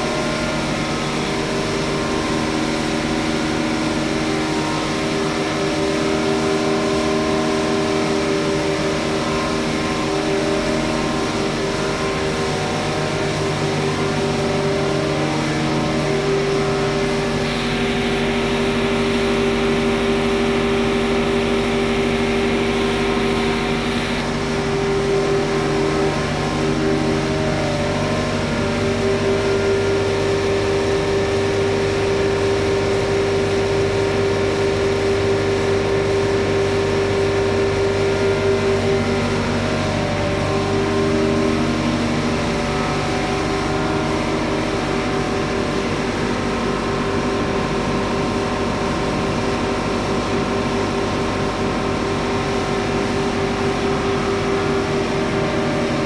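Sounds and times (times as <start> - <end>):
mill machinery humming: 0.0 - 56.0.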